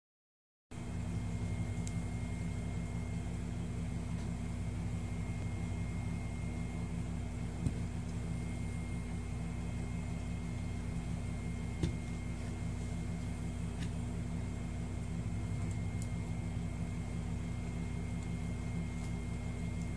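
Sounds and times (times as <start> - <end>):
low machine hum: 0.7 - 19.9
high-pitched whine: 0.8 - 19.9.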